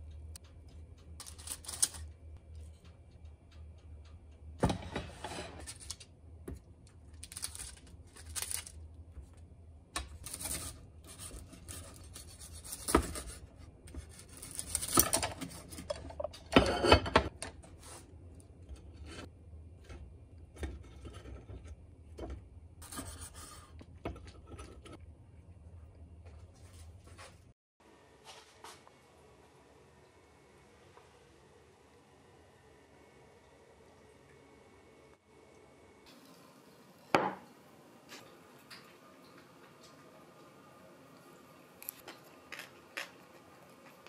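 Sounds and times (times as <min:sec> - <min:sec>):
steady low hum: 0:00.0 - 0:38.4.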